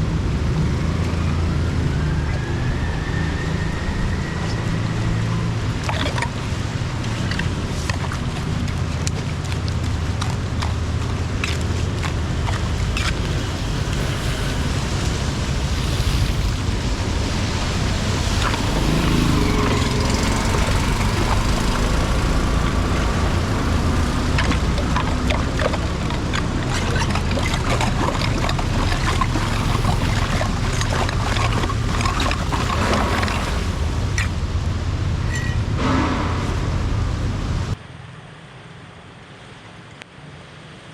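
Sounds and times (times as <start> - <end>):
heavy rain: 0.0 - 37.8
rushing floodwater: 0.0 - 40.9.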